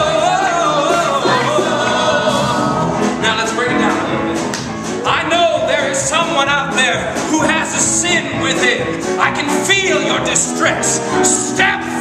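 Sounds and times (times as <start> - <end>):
band with piano bass and drums: 0.0 - 12.0.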